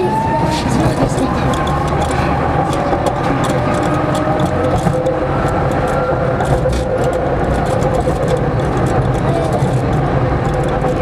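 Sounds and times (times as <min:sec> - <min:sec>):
tram motor whine: 0:00.0 - 0:11.0
wheels rumbling on rails: 0:00.0 - 0:11.0.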